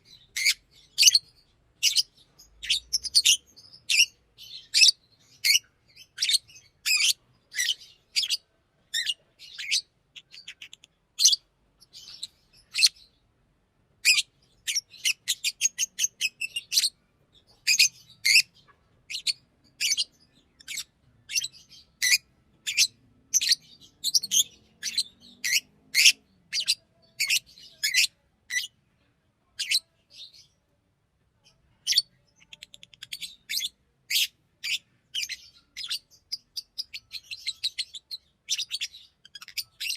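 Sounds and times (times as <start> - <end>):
lovebird chirping: 0.0 - 13.3, 14.0 - 28.8, 29.5 - 30.7, 31.4 - 39.9.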